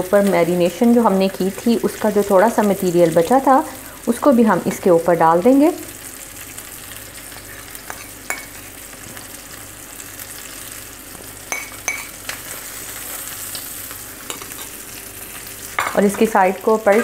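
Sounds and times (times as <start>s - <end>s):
chicken sizzling in grill pan: 0.0s - 17.0s.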